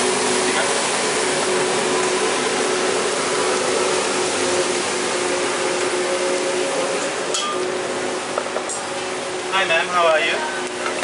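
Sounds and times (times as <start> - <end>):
gas burners hissing: 0.0 - 11.0.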